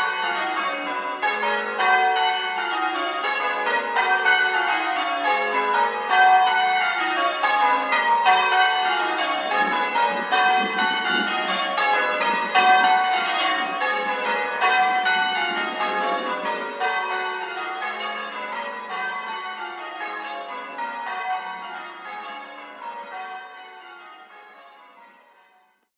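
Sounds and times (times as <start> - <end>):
church bells ringing: 0.0 - 25.8.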